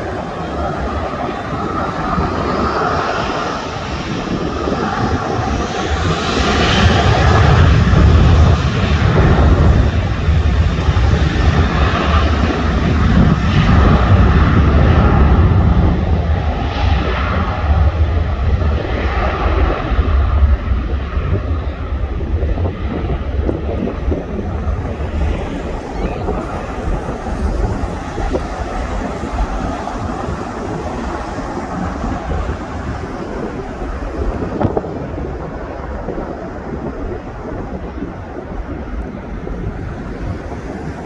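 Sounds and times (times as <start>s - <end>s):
jet engines passing: 0.0s - 41.0s.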